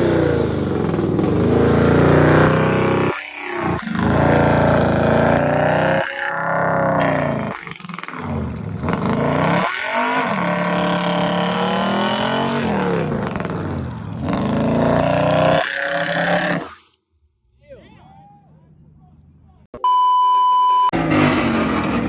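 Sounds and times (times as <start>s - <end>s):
car engine revving: 0.0s - 16.7s, 21.0s - 22.0s.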